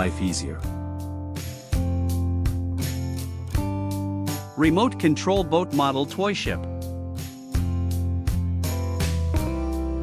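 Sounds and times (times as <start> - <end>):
background music chords: 0.0 - 10.0.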